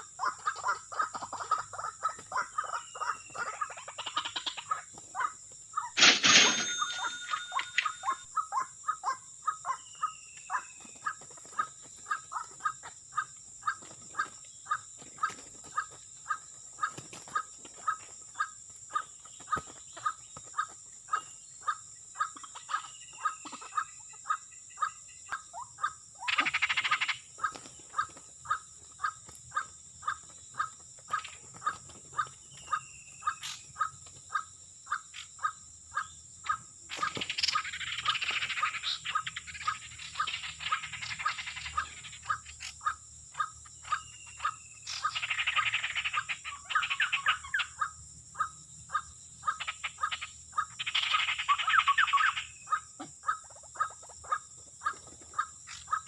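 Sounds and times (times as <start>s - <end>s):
harsh bird chattering: 0.0s - 56.0s.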